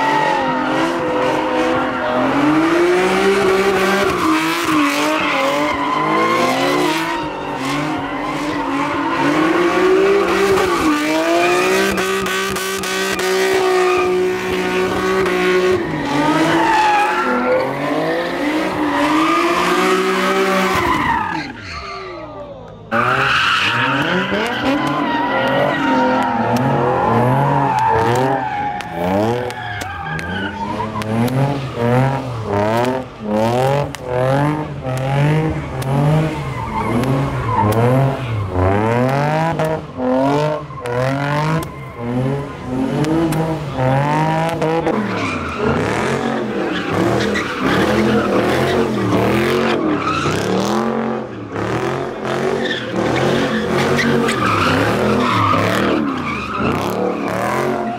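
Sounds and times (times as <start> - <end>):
car engine revving: 0.0 - 21.6, 22.8 - 57.9
tyres squealing and skidding: 0.0 - 57.9.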